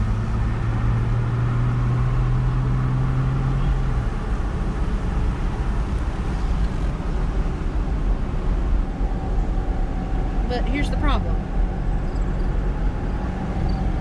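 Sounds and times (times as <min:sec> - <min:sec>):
tyre and engine rumble: 0:00.0 - 0:14.0.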